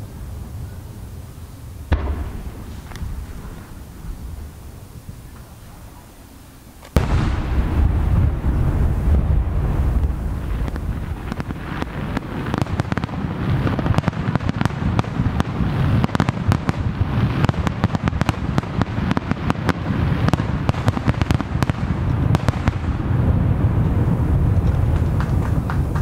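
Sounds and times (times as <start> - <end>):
continuous low rumble: 0.0 - 26.0
fireworks bangs and crackles: 0.0 - 26.0.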